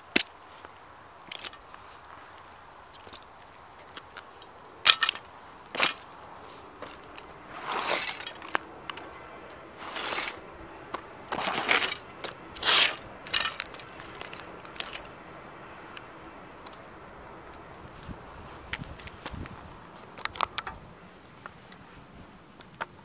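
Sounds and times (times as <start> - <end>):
boots crunching plastic on pavement: 0.0 - 20.3.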